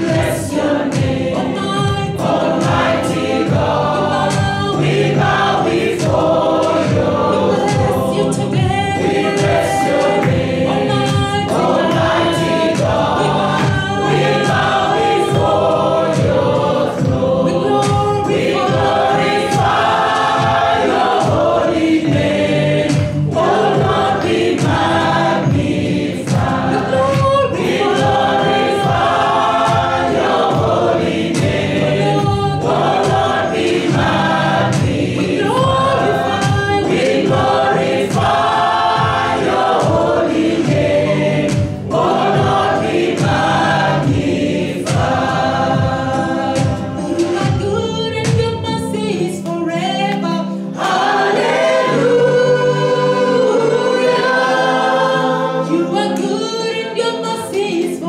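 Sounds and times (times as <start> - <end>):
choir singing gospel song: 0.0 - 58.0
instrumental backing: 0.0 - 58.0.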